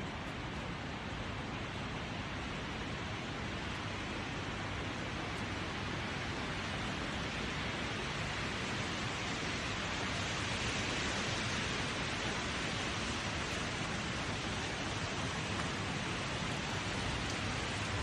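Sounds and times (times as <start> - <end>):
wind rustling tree leaves: 0.0 - 18.0.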